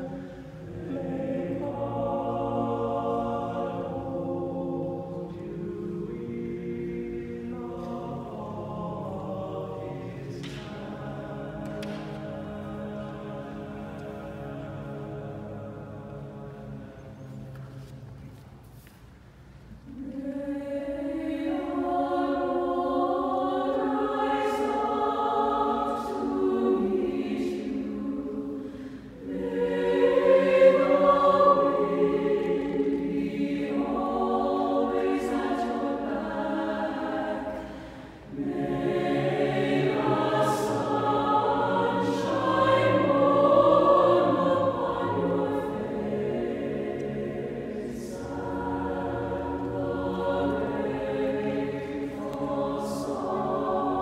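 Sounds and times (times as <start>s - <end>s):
choir singing sustained chords: 0.0s - 18.3s, 19.8s - 54.0s.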